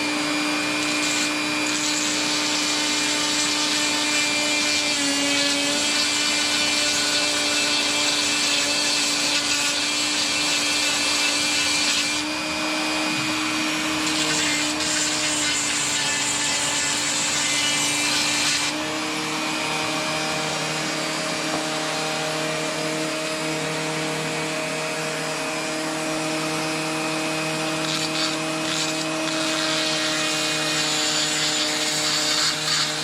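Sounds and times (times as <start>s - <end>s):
electric grinder grinding metal: 0.0s - 33.0s.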